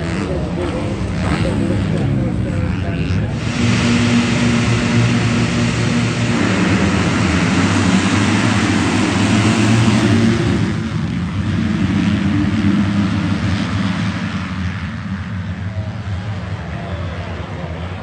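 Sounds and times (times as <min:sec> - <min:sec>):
dirt bike engine running hard: 0:00.0 - 0:18.0.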